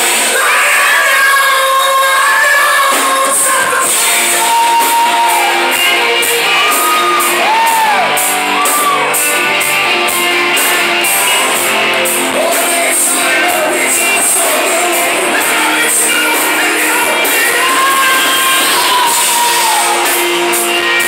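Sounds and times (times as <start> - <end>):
drums with cymbal hits: 0.0 - 21.0
electric guitars: 0.0 - 21.0.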